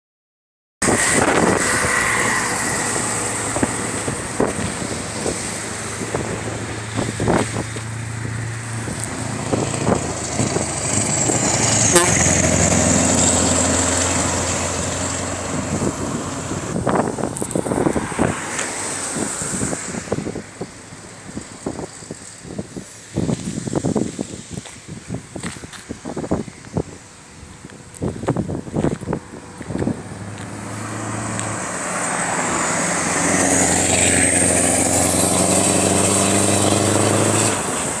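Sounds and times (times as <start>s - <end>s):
truck diesel engine passing: 0.8s - 24.0s, 28.6s - 38.0s.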